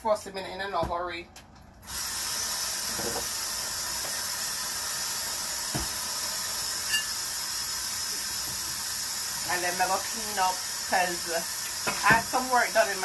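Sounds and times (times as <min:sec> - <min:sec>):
steady hiss: 0:01.8 - 0:13.0.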